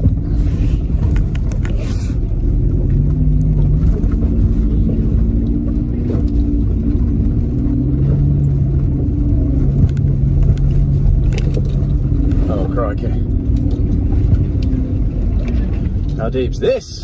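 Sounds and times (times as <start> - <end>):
car engine at low revs: 0.0 - 17.0
low rumble on dirt track: 0.0 - 17.0.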